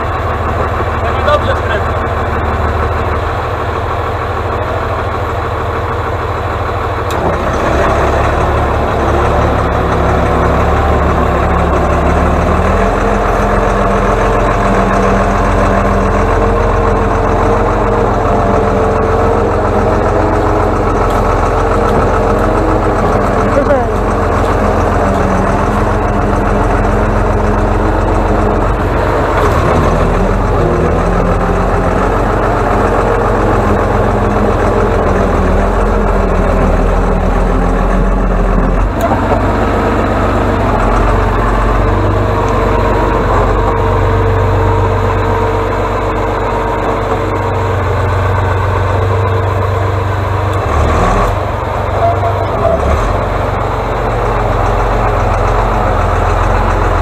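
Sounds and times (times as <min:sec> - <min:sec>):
diesel excavator engine running: 0:00.0 - 0:57.0.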